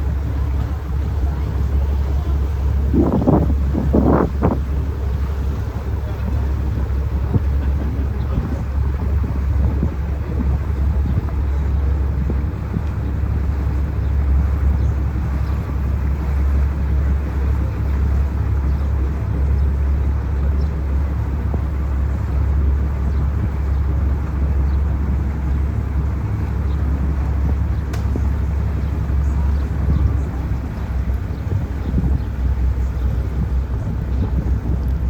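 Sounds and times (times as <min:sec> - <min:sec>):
boat engine rumbling: 0:00.0 - 0:35.0.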